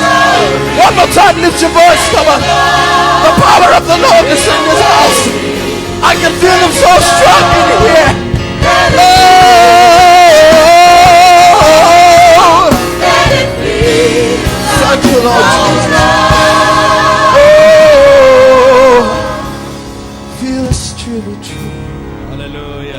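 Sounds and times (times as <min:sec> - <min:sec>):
gospel choir singing: 0:00.0 - 0:21.2
musical backing: 0:00.0 - 0:22.9.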